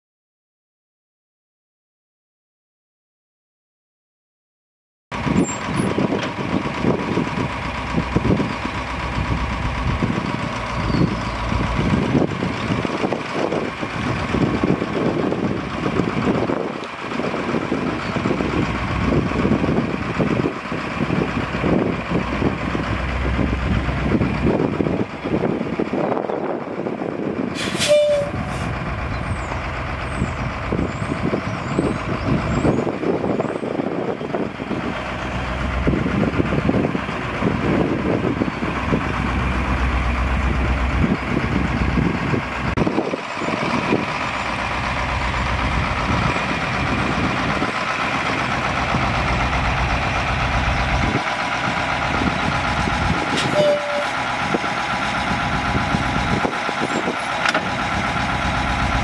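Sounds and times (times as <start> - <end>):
diesel truck engine running: 5.1 - 59.0.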